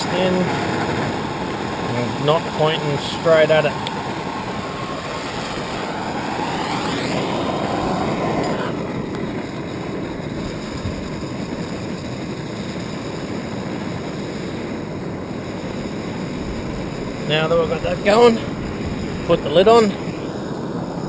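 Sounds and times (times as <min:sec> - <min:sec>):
blowtorch flames hissing: 0:00.0 - 0:21.0.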